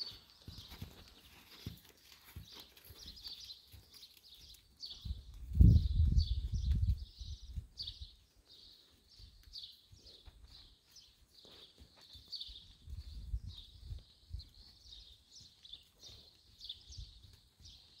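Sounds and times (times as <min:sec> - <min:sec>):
horse hooves trotting on sand: 0:00.0 - 0:18.0
small birds chirping: 0:00.0 - 0:18.0.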